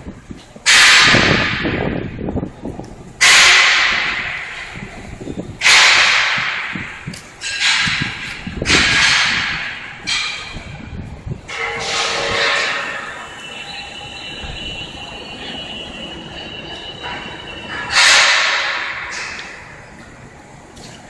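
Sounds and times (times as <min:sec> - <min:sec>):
heavy metal banging: 0:00.6 - 0:20.1.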